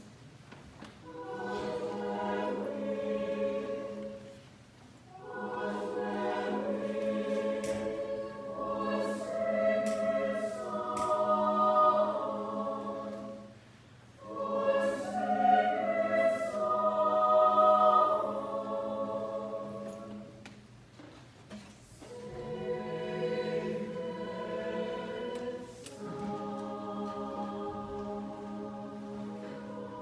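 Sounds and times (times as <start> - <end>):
choir singing a carol: 0.9 - 20.8, 21.8 - 30.0.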